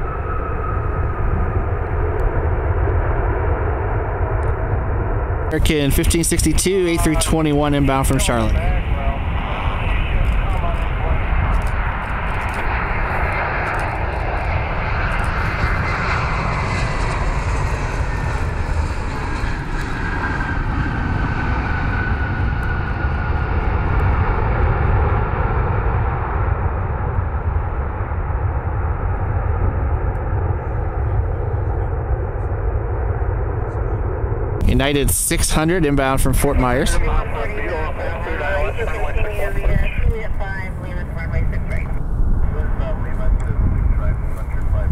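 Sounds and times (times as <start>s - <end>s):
jet engine roar with whine: 0.0s - 44.9s.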